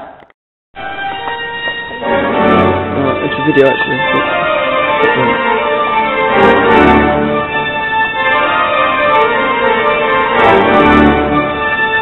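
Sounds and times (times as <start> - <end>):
organ playing sustained chords: 0.8 - 12.0.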